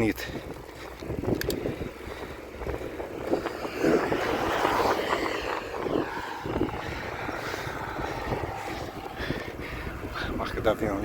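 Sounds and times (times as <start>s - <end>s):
wind rushing over microphone: 0.0s - 11.0s
motor vehicle passing: 0.5s - 11.0s.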